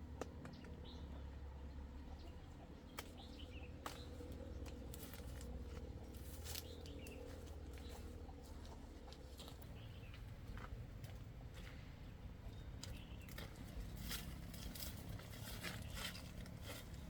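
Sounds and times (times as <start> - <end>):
steady low rumble: 0.8 - 17.0.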